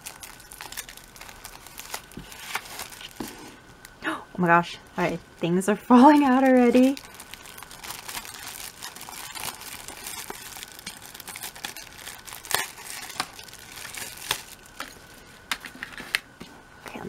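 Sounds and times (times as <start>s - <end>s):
plastic bag crinkling: 0.0s - 4.0s, 4.9s - 16.1s.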